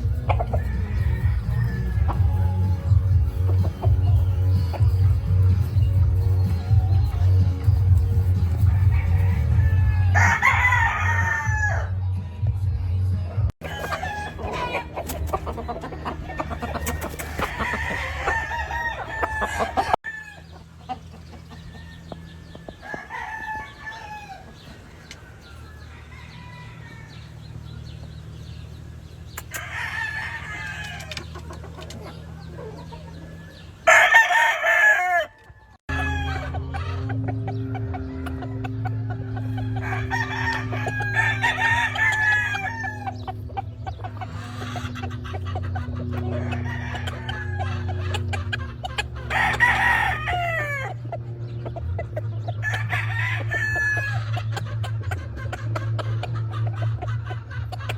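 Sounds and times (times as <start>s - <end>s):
chickens clucking: 0.0s - 12.0s, 13.3s - 57.9s
roosters crowing: 0.0s - 12.2s, 13.6s - 57.9s.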